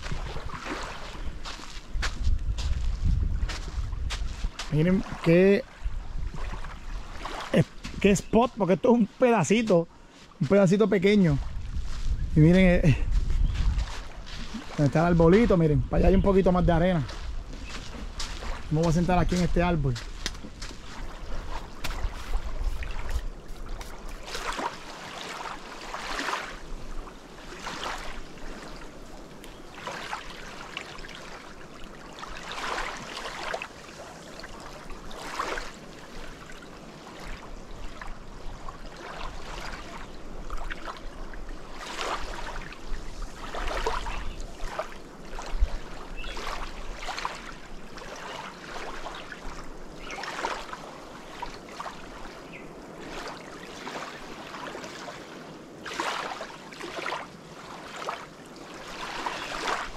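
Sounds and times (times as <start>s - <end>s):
waves lapping on sandy shore: 0.0s - 59.9s.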